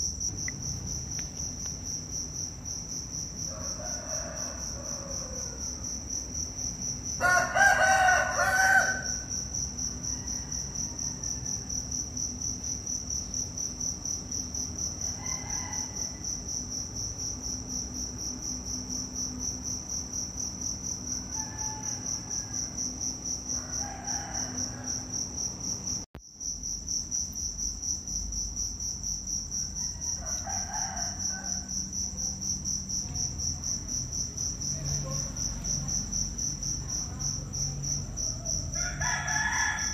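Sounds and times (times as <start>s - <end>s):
insect pulsing trill: 0.0s - 7.5s, 8.2s - 39.9s.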